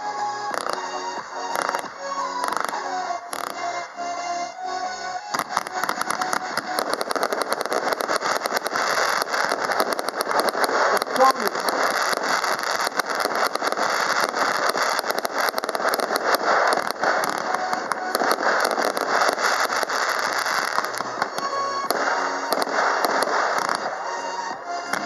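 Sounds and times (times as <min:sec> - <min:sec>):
fireworks crackling and popping: 0:00.1 - 0:03.8, 0:05.2 - 0:25.0.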